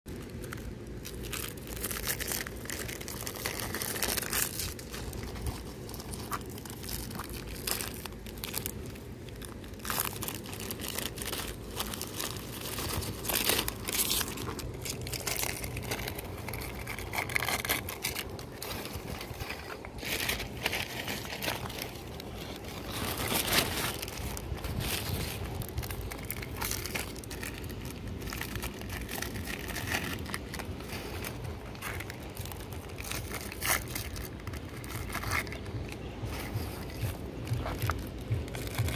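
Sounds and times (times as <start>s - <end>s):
plastic wrappers crinkling: 0.1s - 38.9s.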